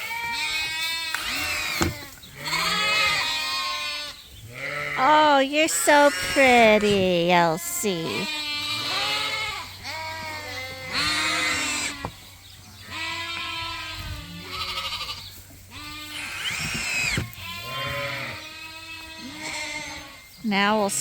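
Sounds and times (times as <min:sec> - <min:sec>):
ewes and lambs bleating: 0:00.0 - 0:21.0.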